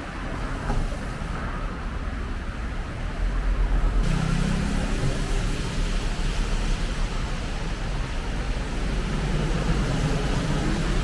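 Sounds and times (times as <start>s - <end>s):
road noise hiss: 0.0s - 11.0s.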